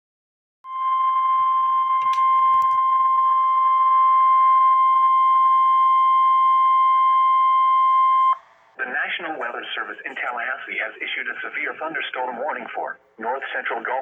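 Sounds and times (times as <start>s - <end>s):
steady warning alarm tone: 0.7s - 12.9s.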